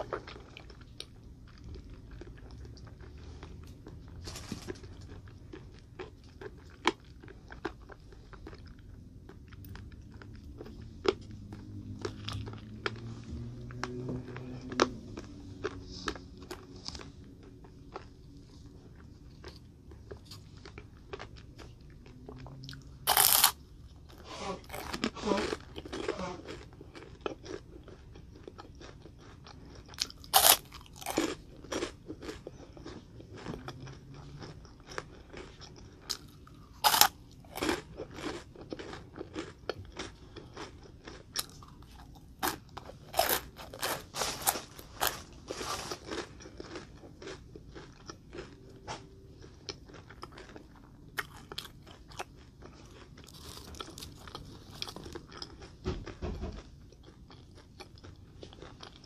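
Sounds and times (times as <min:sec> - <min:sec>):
crunching crisp snack: 0:00.0 - 0:59.0.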